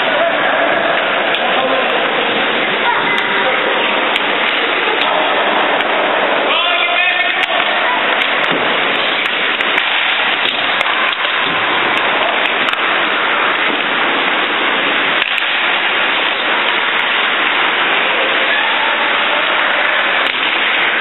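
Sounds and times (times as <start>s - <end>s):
ice rink hiss: 0.0s - 21.0s.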